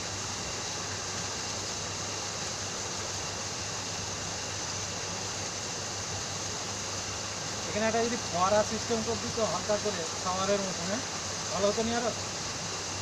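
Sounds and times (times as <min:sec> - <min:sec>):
garden waterfall rushing: 0:00.0 - 0:13.0.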